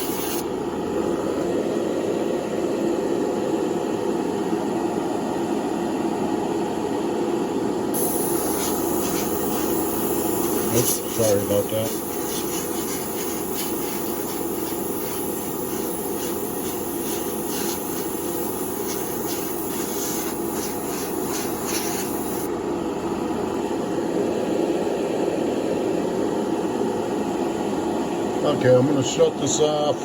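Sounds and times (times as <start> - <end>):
hot-air blower running: 0.0 - 28.6.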